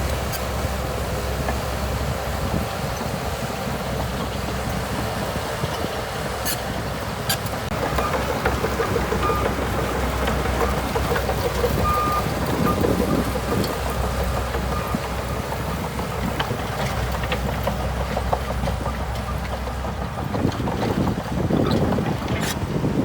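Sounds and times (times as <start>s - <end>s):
diesel engine hum: 0.0s - 23.0s.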